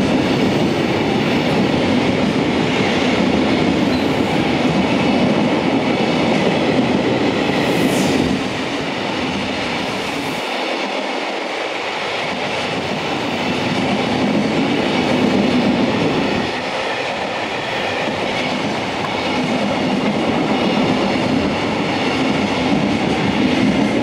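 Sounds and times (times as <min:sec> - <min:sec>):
freight train wheels on rails: 0:00.0 - 0:24.0.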